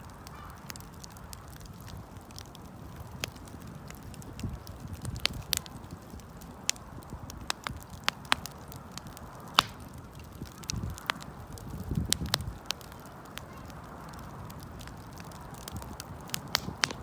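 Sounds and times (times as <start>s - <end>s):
campfire crackling and popping: 0.0s - 17.0s
low rumble of flames: 0.0s - 17.0s.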